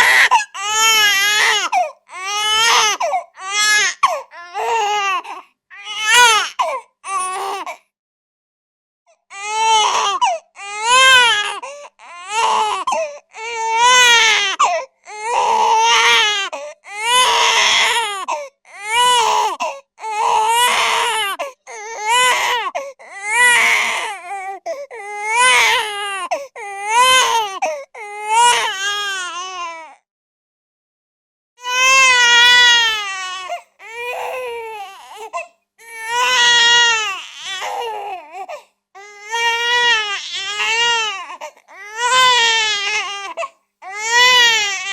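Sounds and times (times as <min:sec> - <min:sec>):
baby crying: 0:00.0 - 0:07.8, 0:09.3 - 0:30.0, 0:31.6 - 0:44.9.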